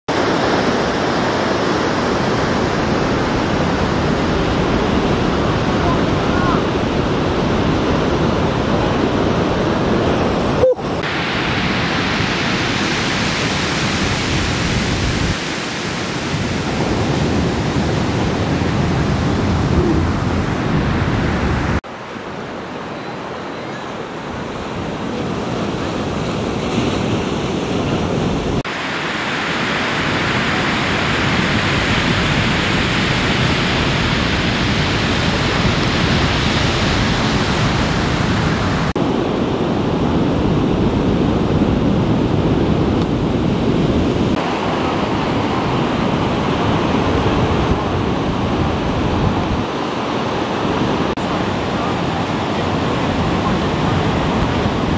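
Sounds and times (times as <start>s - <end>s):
ocean waves breaking: 0.1s - 54.9s
wind on microphone: 0.1s - 54.9s.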